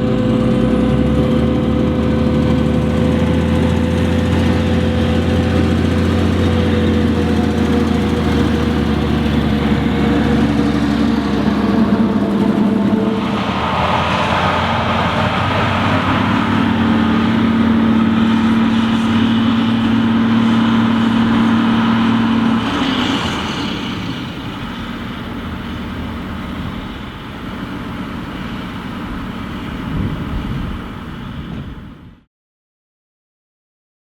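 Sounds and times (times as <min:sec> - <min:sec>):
diesel farm machinery engine: 0:00.0 - 0:32.2.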